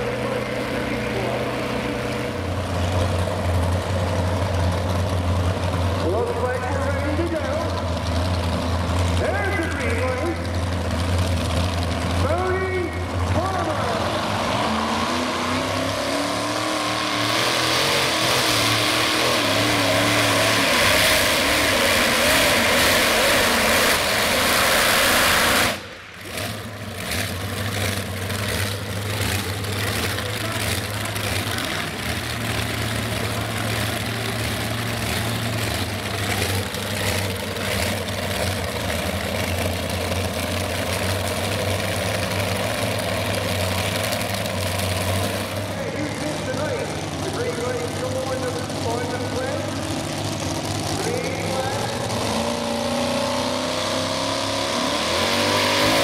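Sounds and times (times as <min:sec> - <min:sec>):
tractor engines at full throttle: 0:00.0 - 0:56.0.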